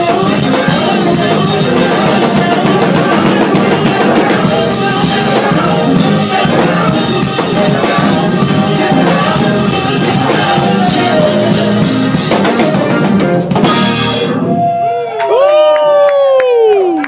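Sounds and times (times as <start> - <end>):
drum kit: 0.0 - 15.1
live band playing loudly: 0.0 - 15.4.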